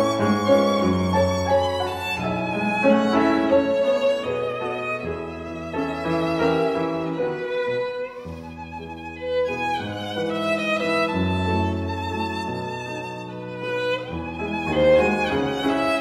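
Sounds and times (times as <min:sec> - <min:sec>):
violin melody with vibrato: 0:00.0 - 0:16.0.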